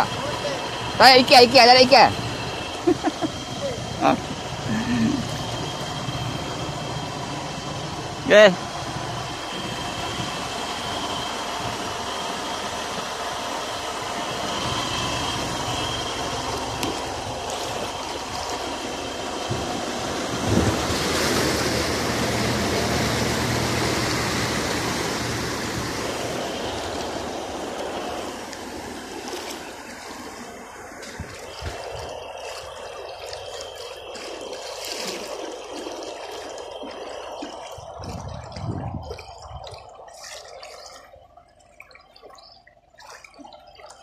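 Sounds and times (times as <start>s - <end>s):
truck engine running: 0.0s - 40.2s
water rushing and splashing: 0.0s - 44.0s.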